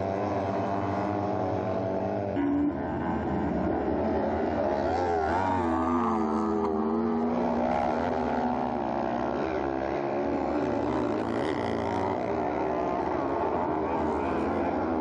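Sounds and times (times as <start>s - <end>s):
buggy engines revving: 0.0s - 15.0s.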